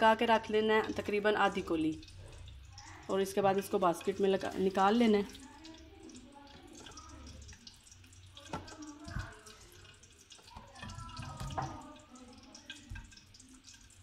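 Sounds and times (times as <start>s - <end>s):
liquid dripping and splashing: 0.0s - 14.0s.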